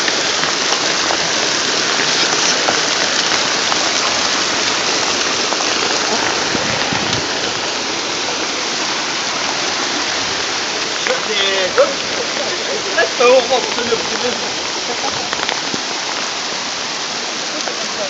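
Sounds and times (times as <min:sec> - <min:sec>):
heavy rain on water and pavement: 0:00.0 - 0:18.0.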